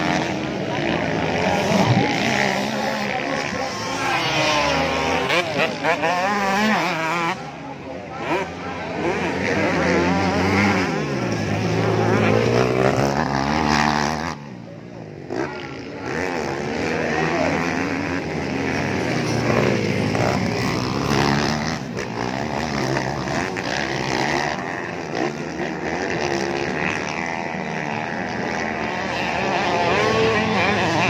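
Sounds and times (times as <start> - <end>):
motocross bike engines revving: 0.0 - 31.0.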